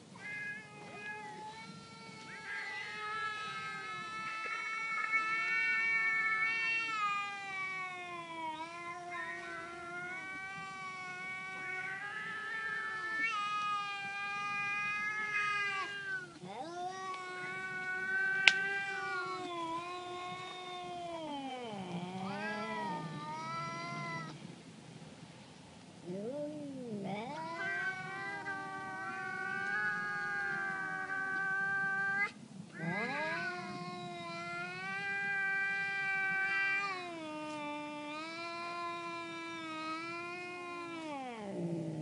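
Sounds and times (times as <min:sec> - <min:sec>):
cats yowling: 0:00.0 - 0:24.4, 0:26.1 - 0:42.0.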